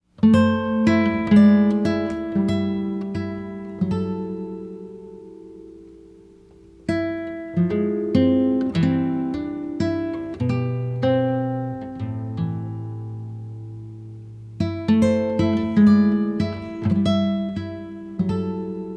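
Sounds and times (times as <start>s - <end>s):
acoustic guitar plucked notes: 0.2s - 18.9s.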